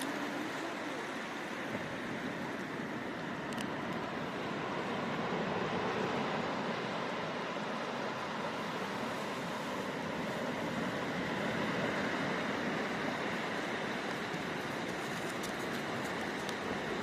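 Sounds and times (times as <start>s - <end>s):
sea surf washing in: 0.0s - 17.0s.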